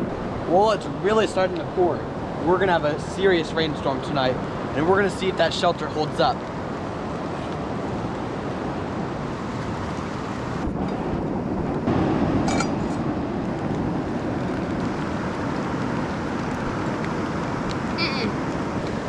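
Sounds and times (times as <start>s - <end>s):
heavy rain: 0.0s - 19.0s
river cascading: 0.0s - 19.0s.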